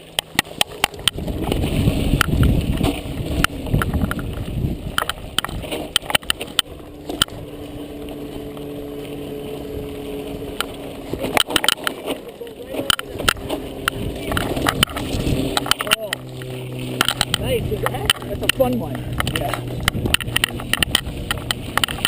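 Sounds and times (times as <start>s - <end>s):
wind and tyre noise: 0.0s - 12.1s, 12.8s - 22.0s
bike rattling over rough trail: 0.0s - 22.0s
humming buzz: 0.0s - 22.0s.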